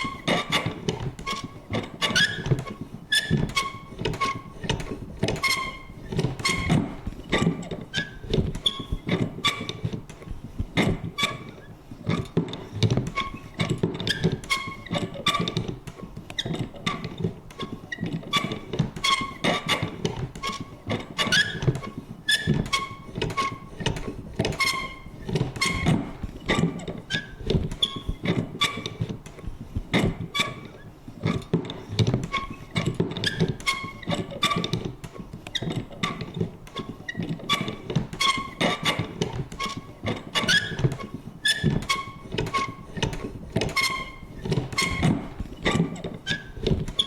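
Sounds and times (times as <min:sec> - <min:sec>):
paper punch clicking and squeaking: 0:00.0 - 0:47.0.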